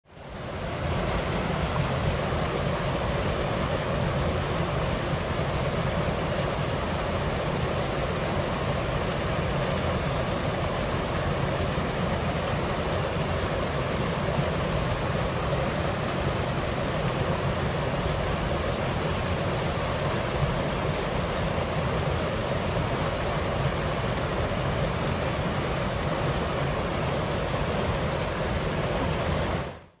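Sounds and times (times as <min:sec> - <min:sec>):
stream rushing over rocks: 0:00.1 - 0:29.9.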